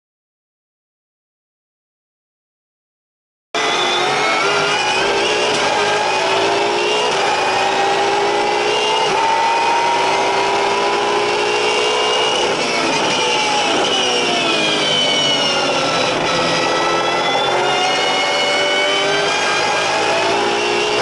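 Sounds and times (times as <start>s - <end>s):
race car engine running hard: 3.6s - 21.0s.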